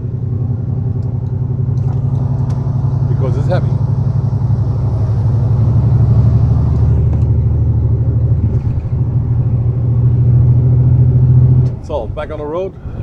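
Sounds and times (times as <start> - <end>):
truck diesel engine humming: 0.0 - 13.0.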